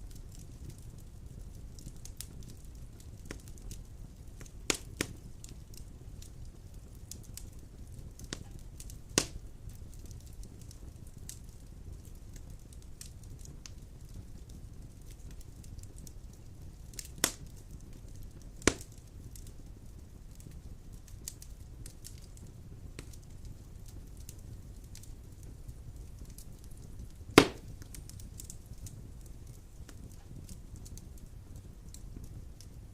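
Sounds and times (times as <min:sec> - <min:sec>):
burning logs snapping: 0:00.0 - 0:32.9
fire crackling: 0:00.0 - 0:32.9
wood fire rumbling: 0:00.0 - 0:32.9.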